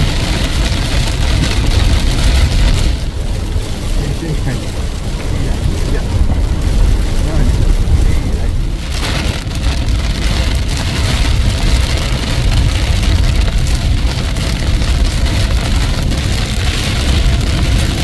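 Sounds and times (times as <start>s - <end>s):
deep rumble: 0.0s - 18.0s
heavy rain rushing: 0.0s - 18.0s.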